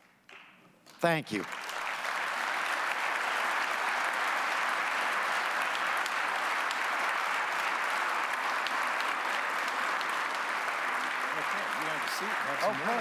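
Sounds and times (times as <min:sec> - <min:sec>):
audience applauding: 0:01.0 - 0:13.0.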